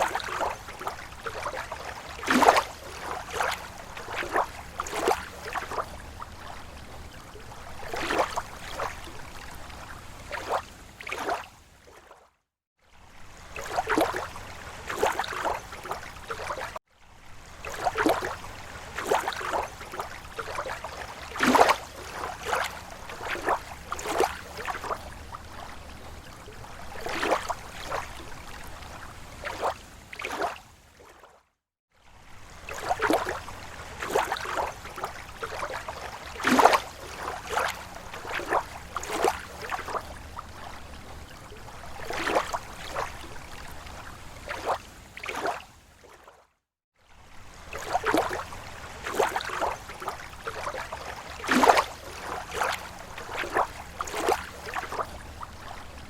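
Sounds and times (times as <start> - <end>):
steady water wash: 0.0 - 12.2, 13.0 - 31.4, 32.1 - 46.4, 47.2 - 56.0
small waves slapping on shore: 0.0 - 56.0.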